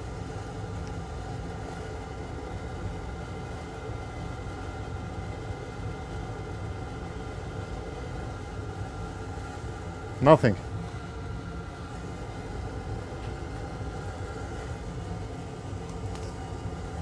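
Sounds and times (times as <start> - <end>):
hum and fan hiss: 0.0 - 17.0.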